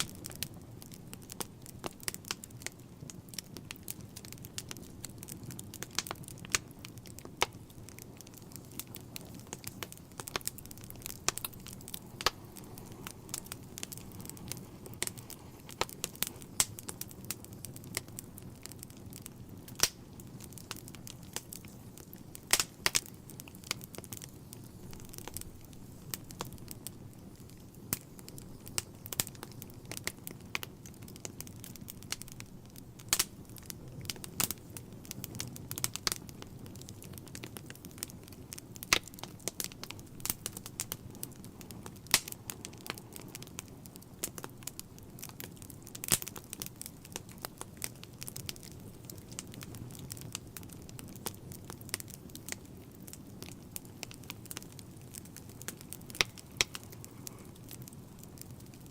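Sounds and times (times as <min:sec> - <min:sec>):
logs crackling and popping: 0:00.0 - 0:58.9
roar of fire flames: 0:00.0 - 0:58.9.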